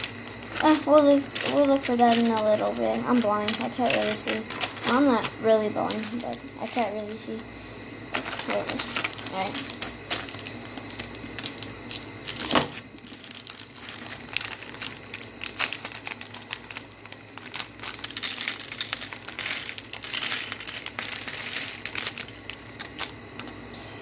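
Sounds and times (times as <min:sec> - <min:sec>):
plastic pieces clicking and clattering: 0:00.0 - 0:07.2, 0:08.2 - 0:23.6.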